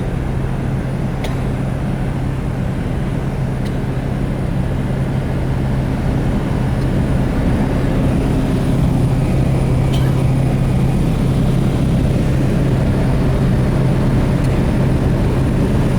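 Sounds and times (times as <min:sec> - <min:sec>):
propeller airplane engine drone: 0:00.0 - 0:15.9.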